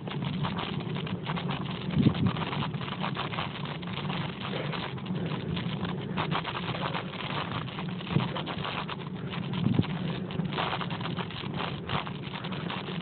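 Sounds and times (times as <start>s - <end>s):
bicycle riding rumble: 0.0s - 13.0s
light ticking and rattling: 0.0s - 13.0s.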